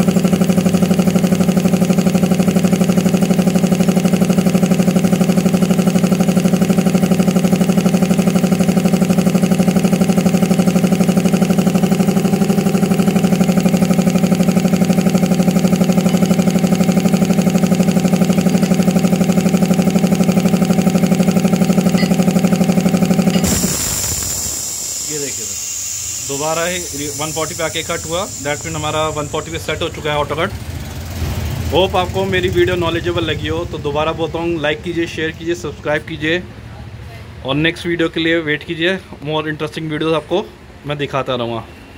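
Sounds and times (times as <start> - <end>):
piston air compressor running: 0.0 - 36.6.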